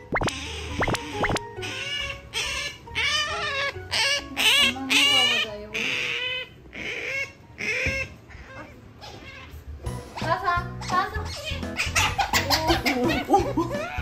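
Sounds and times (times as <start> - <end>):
otter squeaking calls: 0.0 - 14.0.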